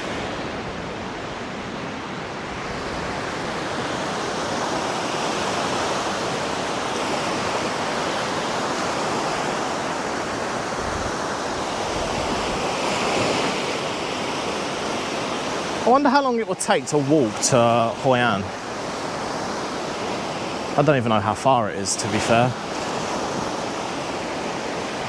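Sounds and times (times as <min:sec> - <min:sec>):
surf washing onto beach: 0:00.0 - 0:25.0.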